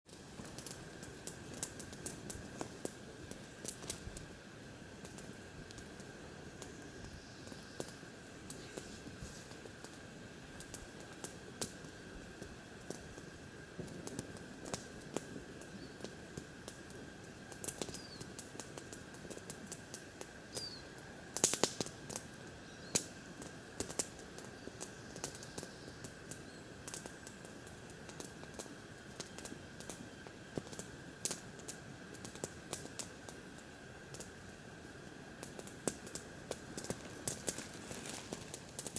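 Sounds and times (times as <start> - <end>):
campfire wood crackling: 0.1 - 38.9.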